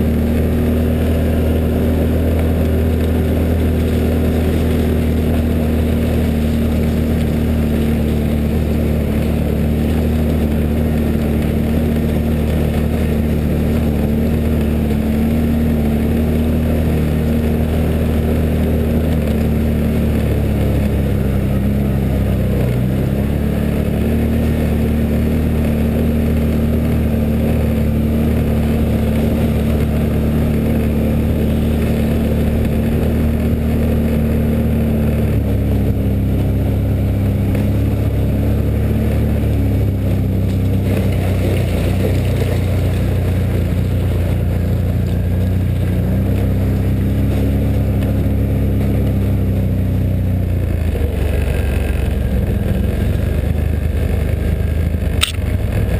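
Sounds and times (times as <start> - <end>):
atv engine running: 0.0 - 55.9.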